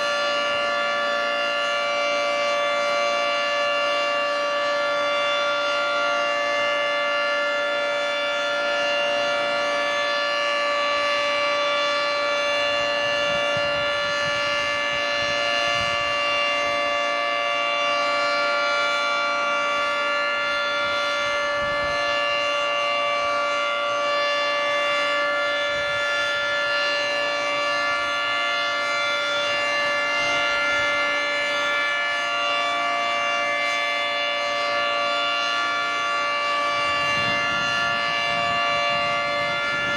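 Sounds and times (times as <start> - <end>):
loud tornado siren tone: 0.0 - 39.9.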